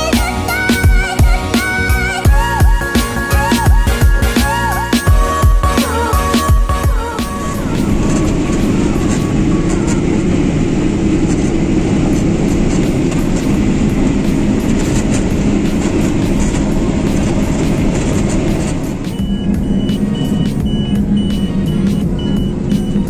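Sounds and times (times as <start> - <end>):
combine harvester rumble: 0.0 - 23.0
low hum: 0.0 - 23.0.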